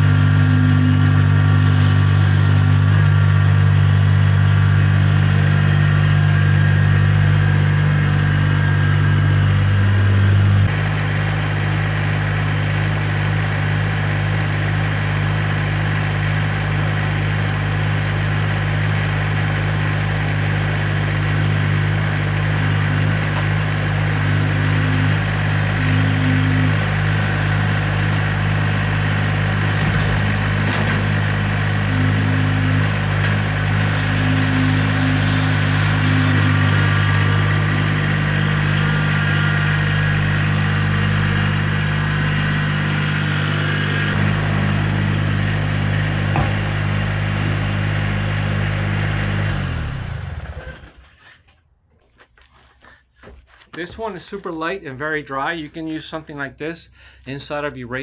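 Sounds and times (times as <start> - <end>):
tractor diesel engine running: 0.0 - 51.6.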